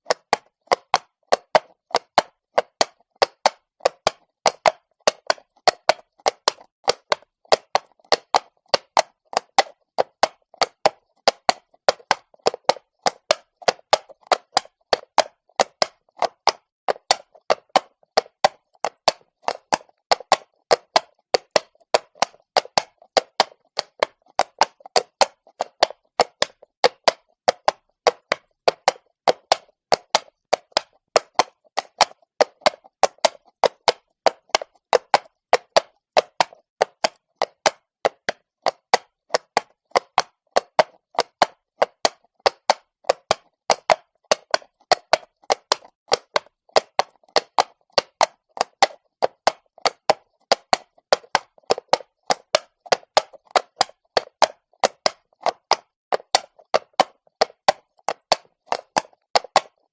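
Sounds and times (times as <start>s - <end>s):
horse hooves on stone: 0.1s - 59.9s.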